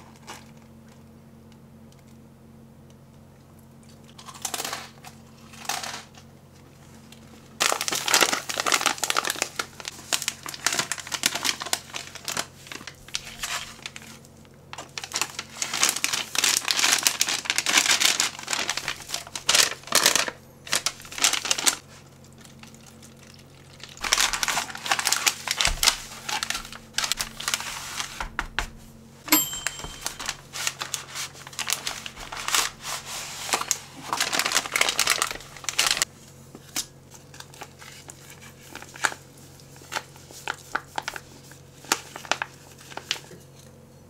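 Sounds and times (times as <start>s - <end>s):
plastic packaging crinkling: 7.0s - 43.4s.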